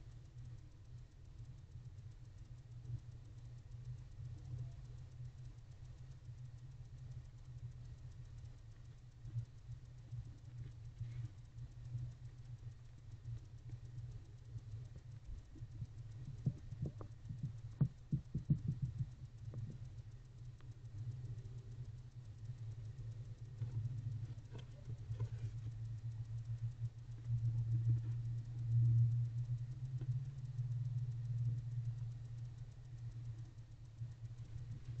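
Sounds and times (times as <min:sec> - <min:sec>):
low hum: 0:00.0 - 0:35.0
owl scratching and clicking: 0:02.9 - 0:35.0.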